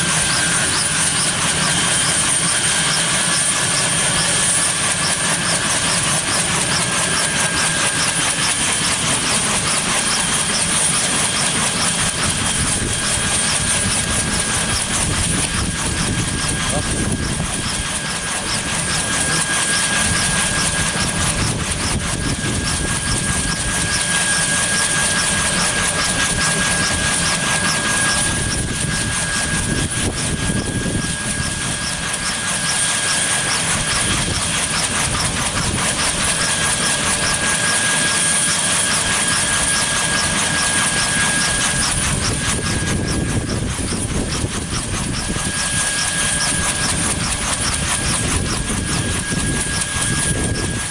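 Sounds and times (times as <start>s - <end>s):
helicopter rotors pulsing: 0.0s - 50.9s
helicopter turbine whine: 0.0s - 50.9s.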